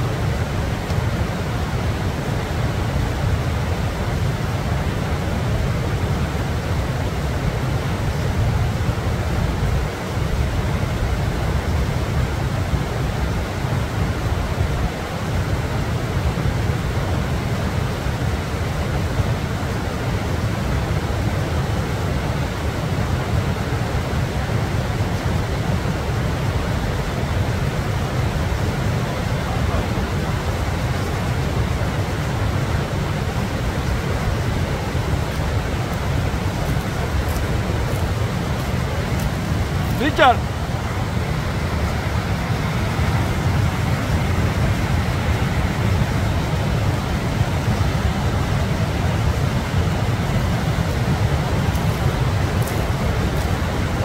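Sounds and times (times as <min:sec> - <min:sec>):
wind blowing across microphone: 0:00.0 - 0:54.0.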